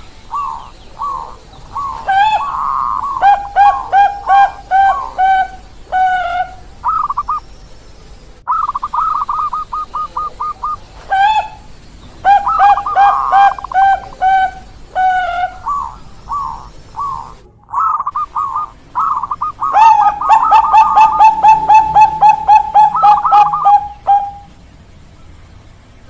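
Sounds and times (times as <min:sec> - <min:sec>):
doves cooing: 0:00.0 - 0:25.0.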